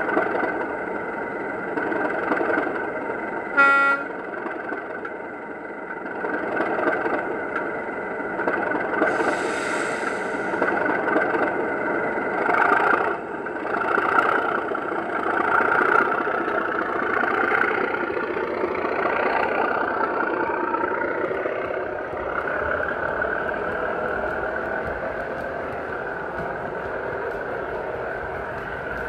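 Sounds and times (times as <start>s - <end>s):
model diesel engine sound: 0.0s - 29.0s
wagons rolling over track: 0.0s - 29.0s.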